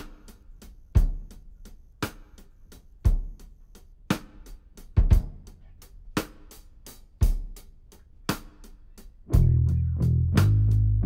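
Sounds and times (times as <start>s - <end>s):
slow drum kit beat: 0.0s - 11.0s.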